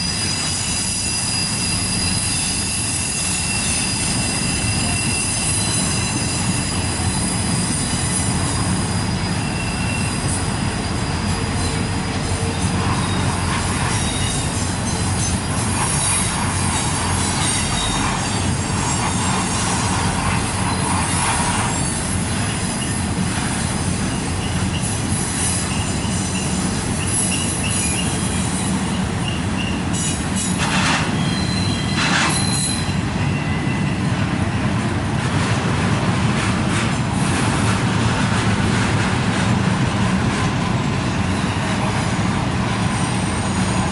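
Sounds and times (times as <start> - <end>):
wheel-flange squeal: 0.0 - 34.8, 40.6 - 43.9
railcar clacks and bangs: 0.0 - 43.9
train wheels rumbling on rail: 0.0 - 43.9.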